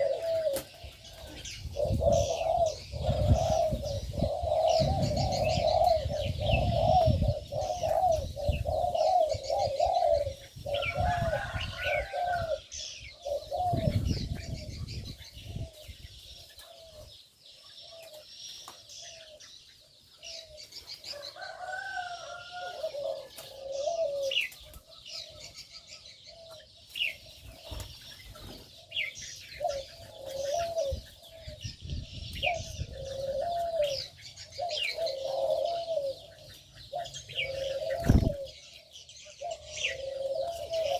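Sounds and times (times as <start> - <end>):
doves cooing: 0.0 - 18.3, 20.2 - 40.9
small birds chirping and twittering: 0.0 - 40.9.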